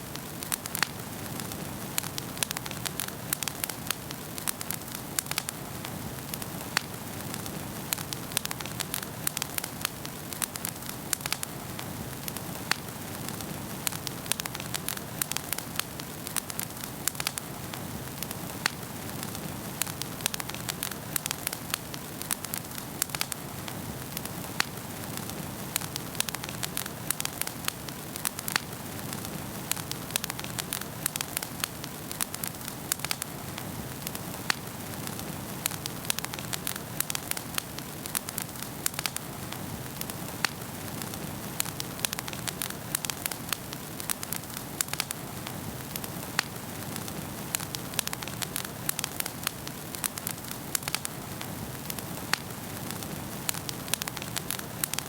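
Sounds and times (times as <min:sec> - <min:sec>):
fire crackling and popping: 0:00.0 - 0:55.0
wood fire burning: 0:00.0 - 0:55.0.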